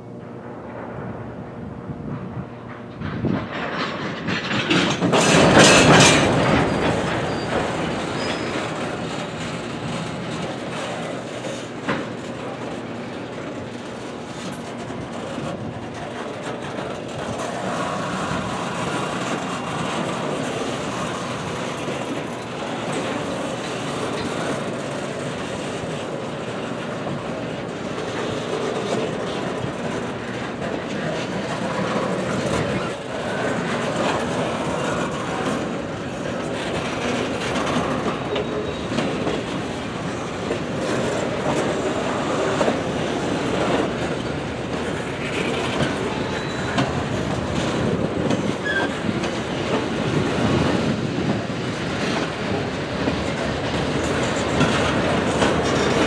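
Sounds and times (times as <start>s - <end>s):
freight train rumbling: 0.0s - 56.0s
train cars clanking: 0.0s - 56.0s
wheels clicking over rails: 2.0s - 56.0s.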